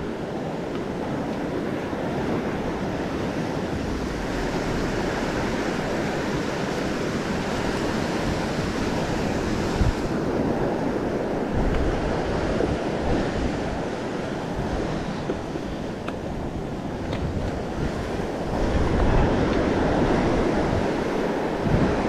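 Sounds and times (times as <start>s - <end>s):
ocean surf washing: 0.0s - 22.0s
wind rumbling on microphone: 0.0s - 22.0s.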